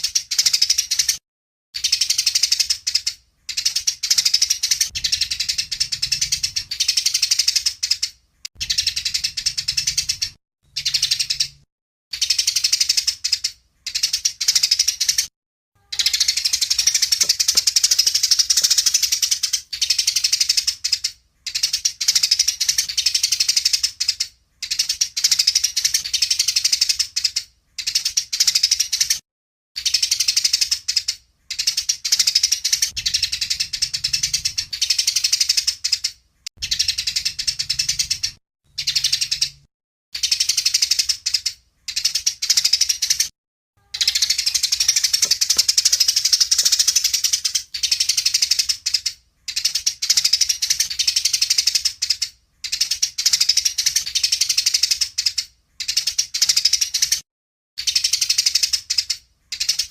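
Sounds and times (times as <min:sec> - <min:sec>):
songbird chattering trill: 0:01.8 - 0:15.2, 0:15.8 - 0:29.1, 0:29.8 - 0:57.1.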